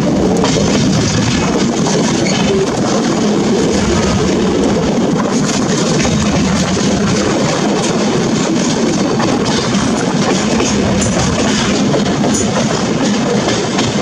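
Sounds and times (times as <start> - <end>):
train wheels rumbling on rail: 0.0 - 14.0
wheels clacking on rail joints: 0.0 - 14.0.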